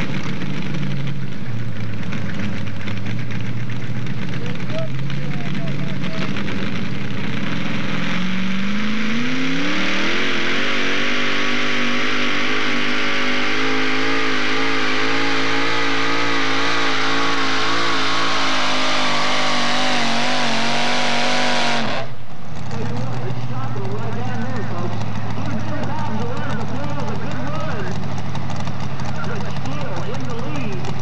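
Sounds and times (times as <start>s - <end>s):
truck engine revving at high revs: 0.0s - 31.0s.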